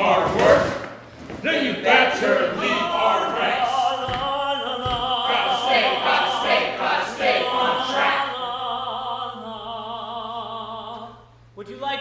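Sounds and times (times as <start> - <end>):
voices singing together: 1.4 - 11.2.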